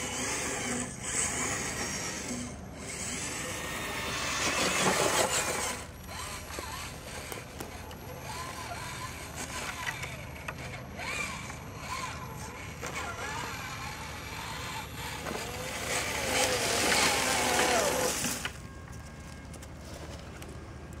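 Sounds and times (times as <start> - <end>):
electric motor and gears whining: 0.0 - 21.0.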